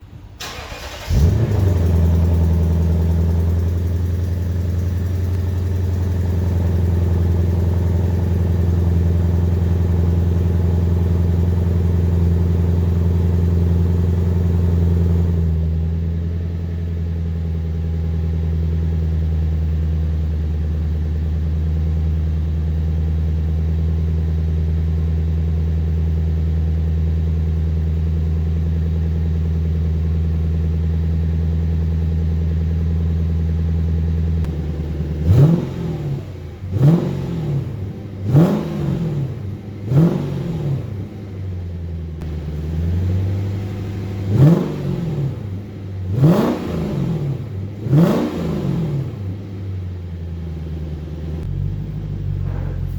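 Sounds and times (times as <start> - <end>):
sports car engine starting and idling: 0.0 - 52.9.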